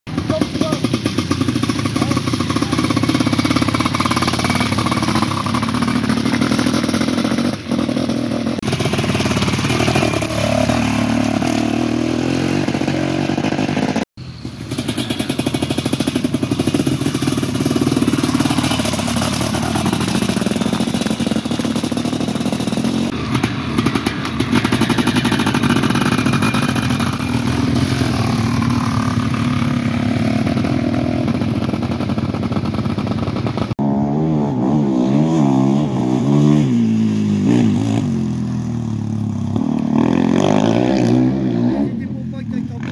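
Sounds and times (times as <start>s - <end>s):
motorcycle engines revving: 0.1s - 42.9s.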